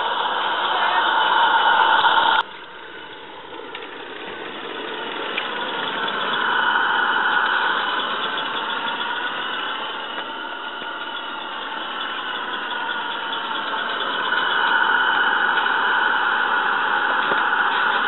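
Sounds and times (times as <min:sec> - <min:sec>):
model steam locomotive hissing: 0:00.0 - 0:18.0.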